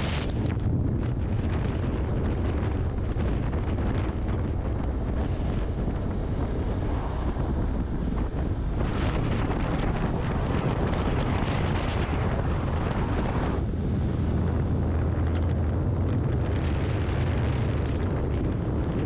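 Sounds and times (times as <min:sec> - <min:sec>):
engine and road rumble: 0:00.0 - 0:19.0
wind buffeting a microphone: 0:00.0 - 0:19.0.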